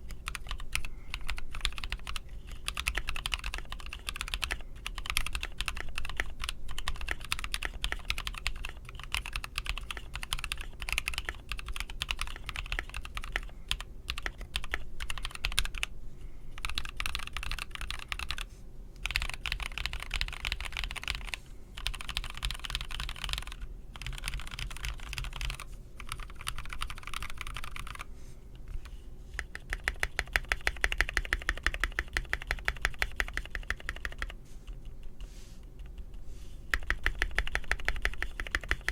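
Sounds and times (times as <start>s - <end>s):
mechanical keyboard typing: 0.0s - 15.9s, 16.6s - 28.1s, 29.4s - 34.8s, 36.7s - 38.9s.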